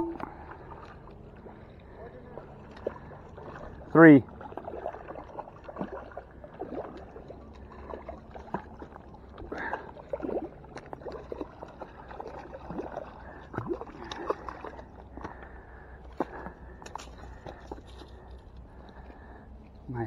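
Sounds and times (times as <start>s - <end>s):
water gurgling and sloshing: 0.0s - 20.0s.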